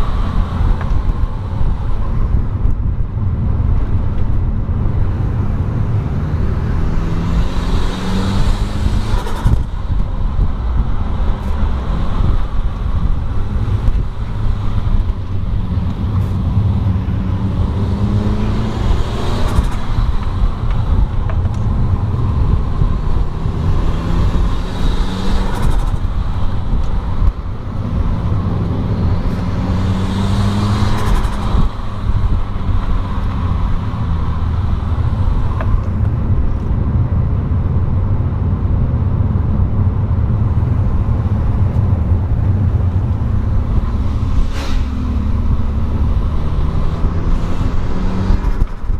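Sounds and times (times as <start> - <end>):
heavy low rumble: 0.0 - 48.9
vehicle engine revving: 0.0 - 48.9.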